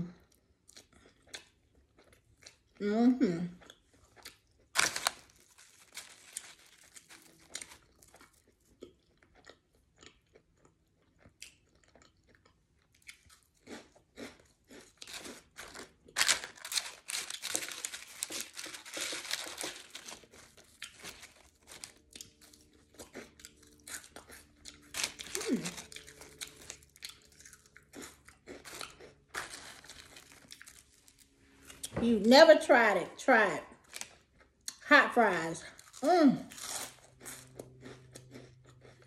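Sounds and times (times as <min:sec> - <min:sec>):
person chewing and crunching food: 0:00.0 - 0:02.8, 0:03.4 - 0:32.0, 0:33.3 - 0:39.0.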